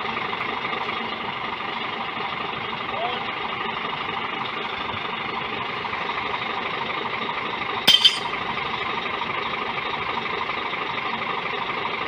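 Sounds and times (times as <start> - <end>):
diesel truck idling: 0.0 - 12.0.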